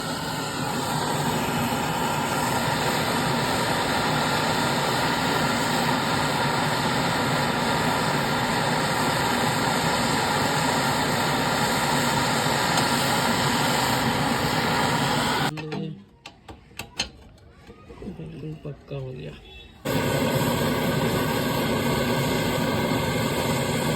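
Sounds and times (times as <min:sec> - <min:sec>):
gas torch hissing: 0:00.0 - 0:15.5, 0:19.9 - 0:23.9.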